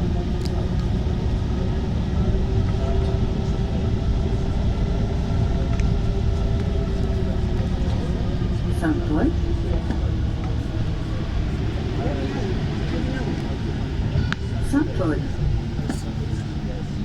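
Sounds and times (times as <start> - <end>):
metro train rumble: 0.0 - 17.0
motor hum: 0.0 - 17.0.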